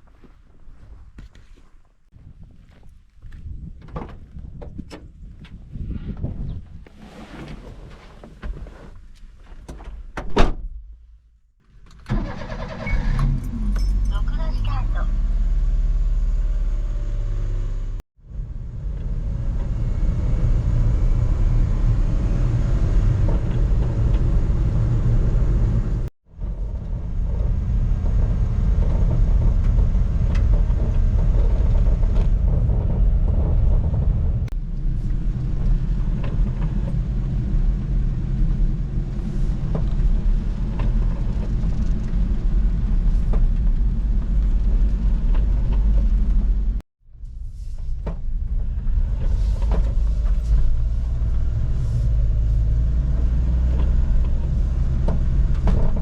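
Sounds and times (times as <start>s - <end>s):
truck engine and road rumble: 0.0s - 56.0s.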